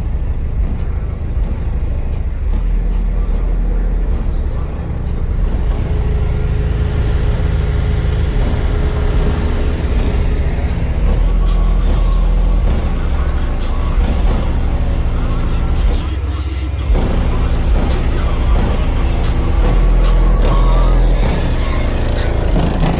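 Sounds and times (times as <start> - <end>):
subwoofers playing deep bass: 0.0 - 22.9.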